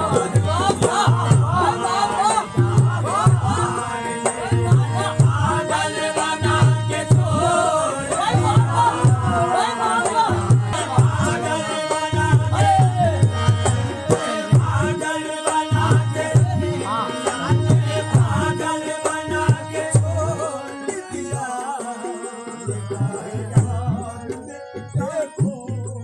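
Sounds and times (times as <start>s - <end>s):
harmonium: 0.0s - 26.0s
tabla rhythm: 0.0s - 26.0s.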